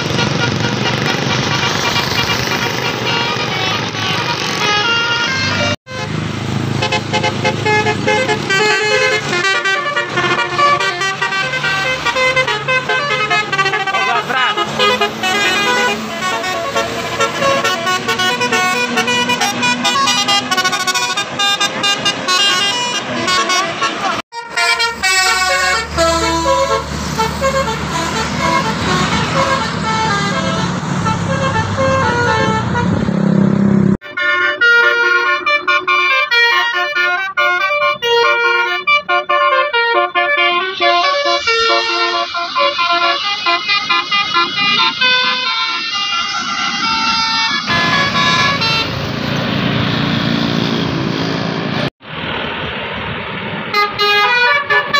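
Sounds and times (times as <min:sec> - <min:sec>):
musical bus horns: 0:00.0 - 0:49.6, 0:53.7 - 0:54.9
bus engine rumbling: 0:00.0 - 0:54.9.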